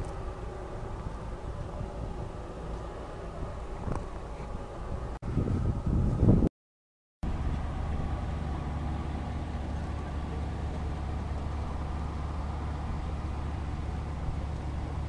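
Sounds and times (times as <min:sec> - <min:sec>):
machinery droning: 0:00.0 - 0:06.4, 0:07.2 - 0:15.0.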